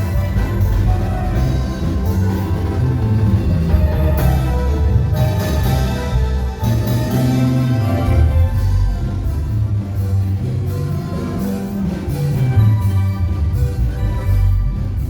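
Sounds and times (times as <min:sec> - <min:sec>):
live instrumental band music: 0:00.0 - 0:15.0
strong bass line: 0:00.0 - 0:15.0.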